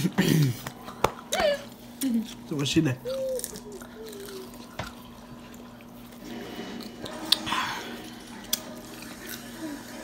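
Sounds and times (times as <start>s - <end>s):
chewing crisp fruit: 0.4s - 10.0s.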